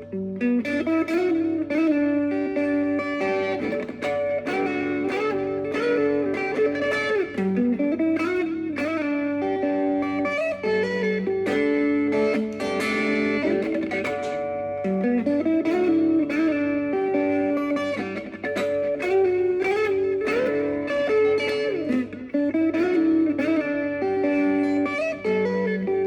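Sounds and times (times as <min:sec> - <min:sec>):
plucked guitar lead melody: 0:00.0 - 0:26.0
sustained guitar accompaniment: 0:00.0 - 0:26.0.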